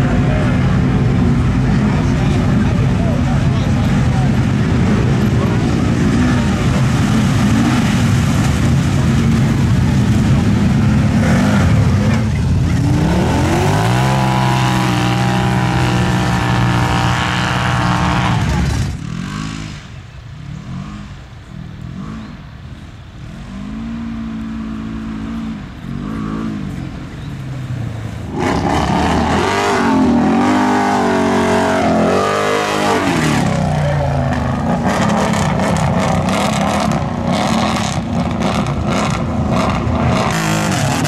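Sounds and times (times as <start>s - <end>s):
off-road engines revving: 0.0s - 41.0s.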